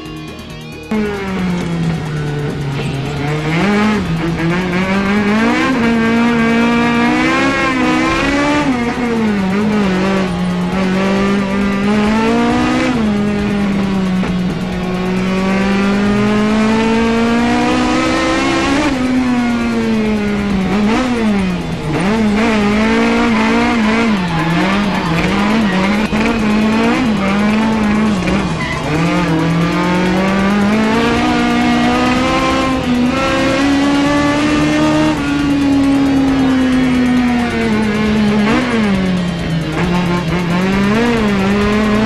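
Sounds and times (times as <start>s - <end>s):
car engine revving hard: 0.8s - 42.0s.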